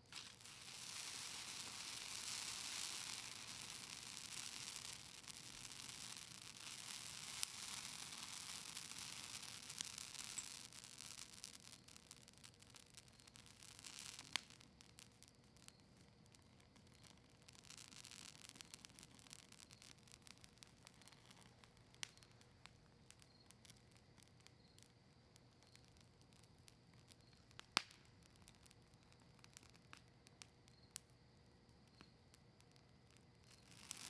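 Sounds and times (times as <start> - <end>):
campfire crackling and popping: 0.0 - 34.0
faint hiss: 0.0 - 34.0.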